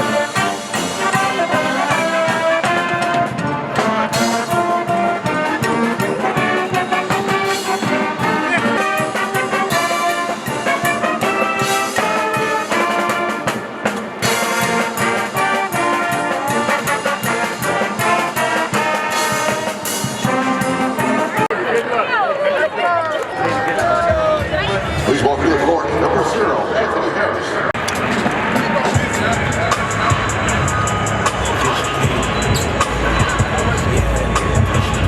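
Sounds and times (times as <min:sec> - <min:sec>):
brass band music: 0:00.0 - 0:21.6, 0:24.4 - 0:35.0.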